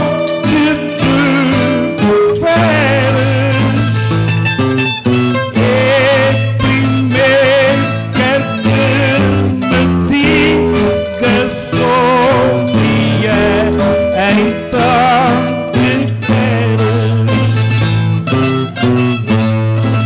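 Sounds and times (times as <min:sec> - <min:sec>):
man singing: 0:00.0 - 0:04.4, 0:05.2 - 0:17.9
plucked string instruments playing: 0:00.0 - 0:20.0.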